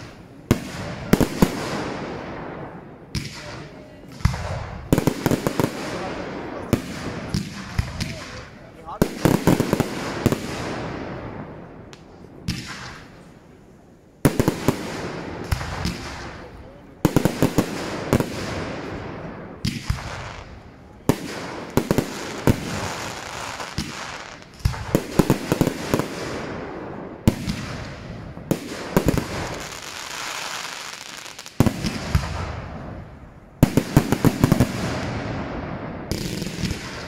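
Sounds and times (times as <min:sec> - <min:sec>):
fireworks banging and crackling: 0:00.0 - 0:37.0.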